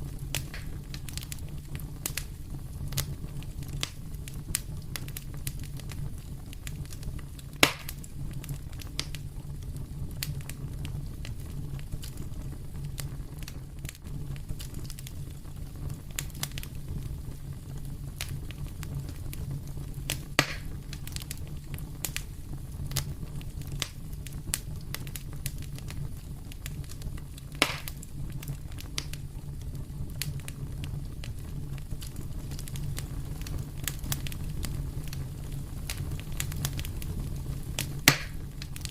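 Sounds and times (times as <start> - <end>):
fire pops: 0.0 - 38.9
wood fire crackling: 0.0 - 38.9.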